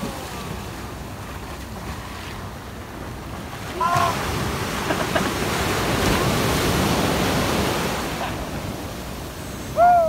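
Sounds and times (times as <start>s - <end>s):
small waves breaking on sand: 0.0s - 10.0s.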